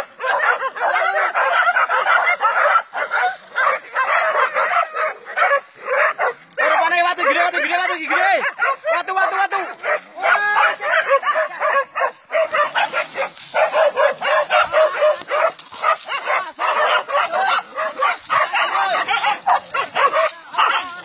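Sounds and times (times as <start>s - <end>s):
dogs barking and yelping: 0.0s - 21.0s.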